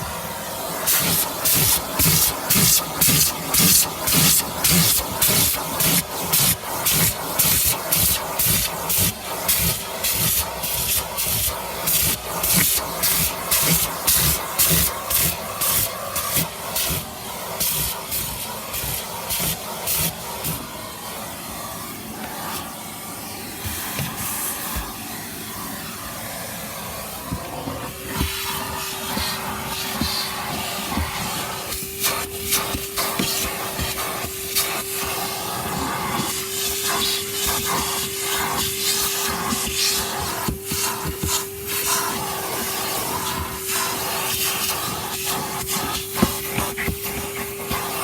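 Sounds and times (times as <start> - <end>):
vacuum cleaner nozzle sucking: 0.0 - 48.0.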